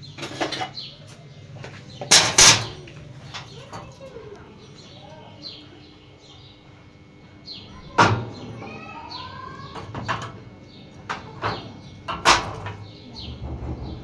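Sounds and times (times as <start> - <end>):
small birds chirping: 0.0 - 2.1, 2.8 - 14.0.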